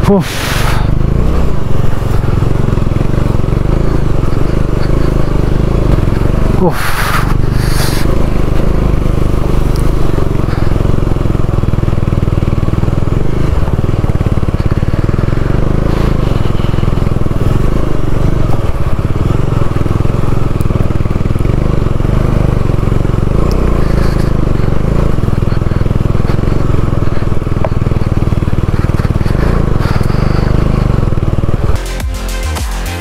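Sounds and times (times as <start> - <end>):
motorcycle engine under load: 0.0 - 33.0.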